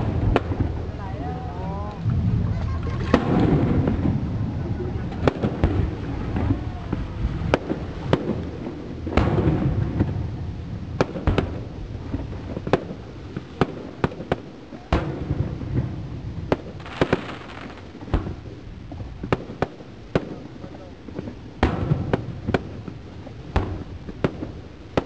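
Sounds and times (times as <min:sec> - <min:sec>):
low rolling rumble: 0:00.0 - 0:14.0, 0:15.0 - 0:24.9.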